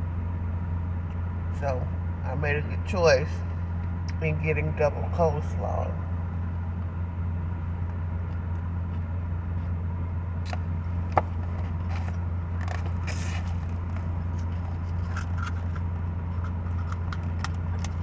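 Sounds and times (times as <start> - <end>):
car air conditioning hum: 0.0 - 18.0.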